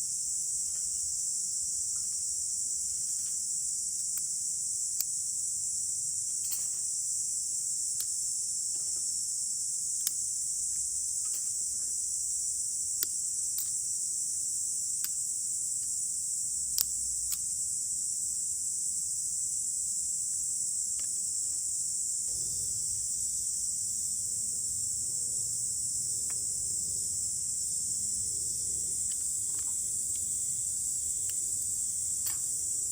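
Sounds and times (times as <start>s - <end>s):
insects chorus: 0.0s - 32.9s.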